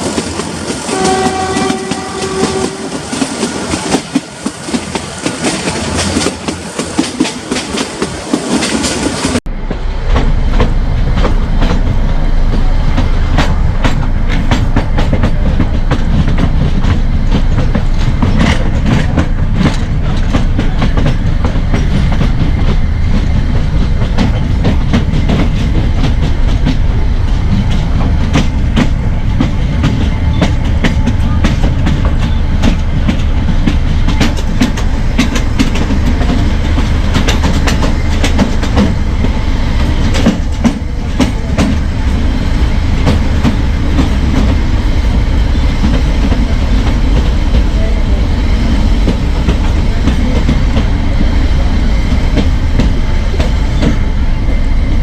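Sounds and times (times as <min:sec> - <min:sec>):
wheels clacking over rails: 0:00.0 - 0:54.2
train rumbling on track: 0:00.0 - 0:55.0.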